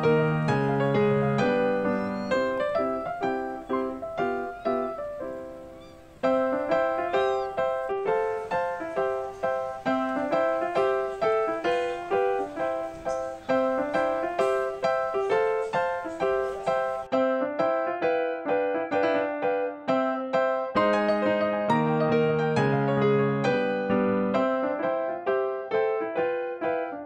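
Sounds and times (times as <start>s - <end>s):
light piano tune: 0.0s - 27.0s.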